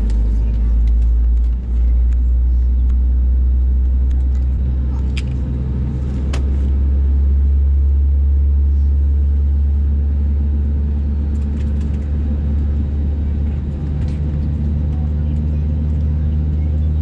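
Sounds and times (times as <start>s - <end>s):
aircraft engines idling: 0.0s - 17.0s.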